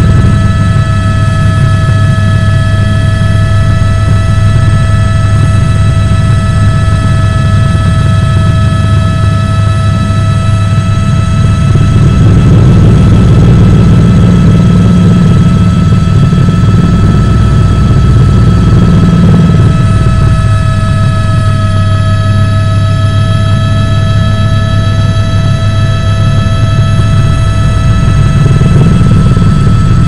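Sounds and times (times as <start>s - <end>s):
helicopter running: 0.0s - 30.0s.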